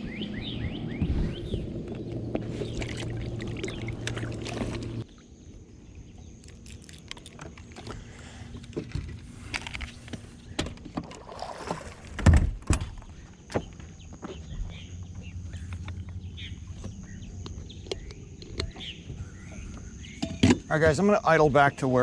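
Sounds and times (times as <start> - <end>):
boat motor hum: 0.0 - 21.8.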